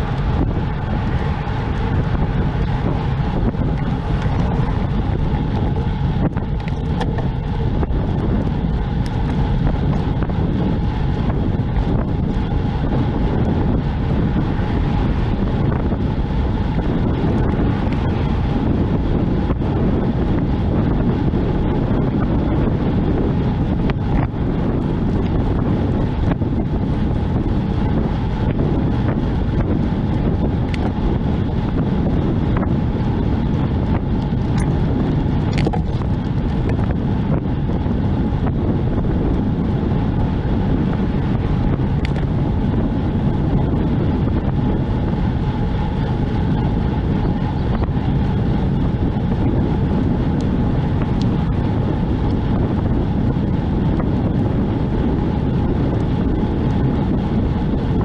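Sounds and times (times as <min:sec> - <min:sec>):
road and vehicle noise: 0:00.0 - 0:58.0
wind on microphone: 0:00.0 - 0:58.0.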